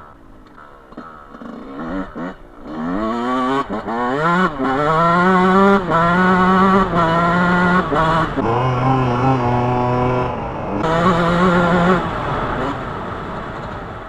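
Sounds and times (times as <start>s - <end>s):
dirt bike engine revving: 0.5s - 14.0s.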